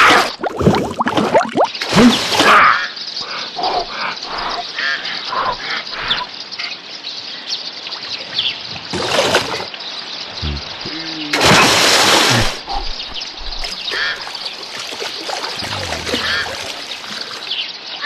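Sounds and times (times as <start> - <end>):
birds chirping: 2.5 - 18.0.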